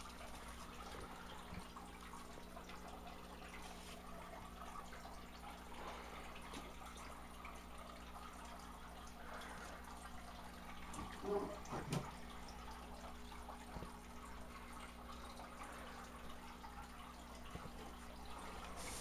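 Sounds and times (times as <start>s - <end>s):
aquarium water bubbling and dripping: 0.0s - 19.0s.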